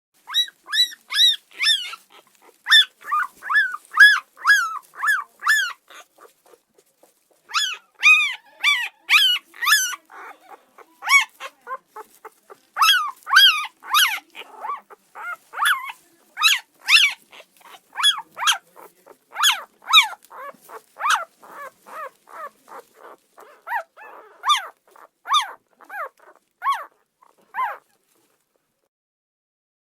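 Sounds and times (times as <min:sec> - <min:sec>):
dog yelping and whining: 0:00.2 - 0:18.7, 0:19.3 - 0:28.0.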